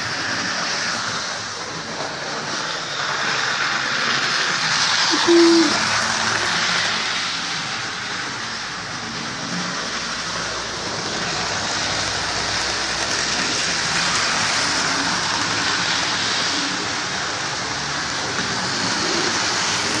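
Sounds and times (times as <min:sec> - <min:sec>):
model train motors whirring: 0:00.0 - 0:20.0.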